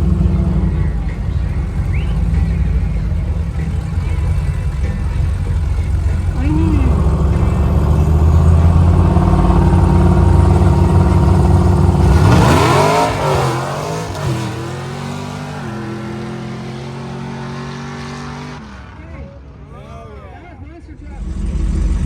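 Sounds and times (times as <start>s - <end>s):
engine rumbling and revving: 0.0s - 19.6s, 20.9s - 22.0s.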